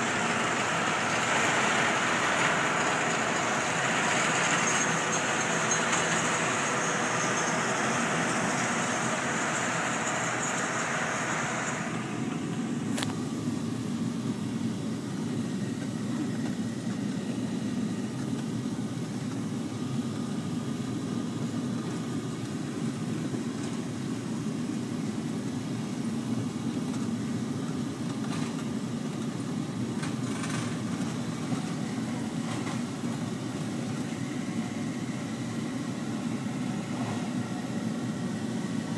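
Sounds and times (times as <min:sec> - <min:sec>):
windrower engine humming: 0:00.0 - 0:38.9.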